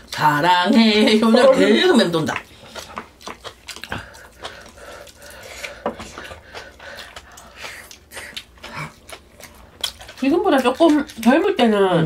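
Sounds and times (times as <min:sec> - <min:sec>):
eating noises: 0:00.0 - 0:12.0.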